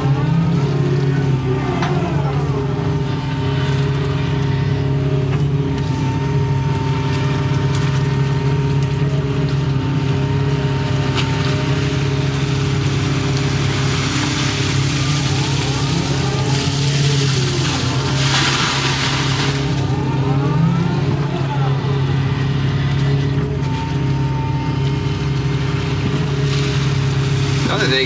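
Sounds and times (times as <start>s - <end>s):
excavator engine and hydraulics: 0.0s - 28.0s.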